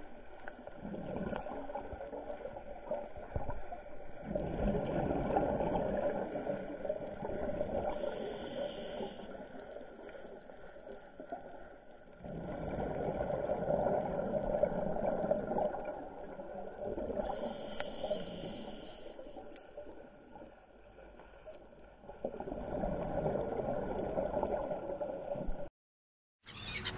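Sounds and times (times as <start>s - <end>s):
underwater rushing and bubbling: 0.0s - 25.7s.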